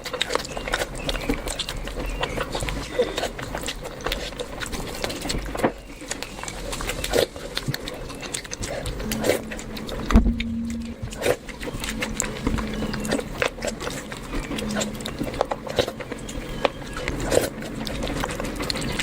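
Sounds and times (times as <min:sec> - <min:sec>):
chewing with wet mouth clicks: 0:00.0 - 0:19.0
faint low hum: 0:01.1 - 0:19.0.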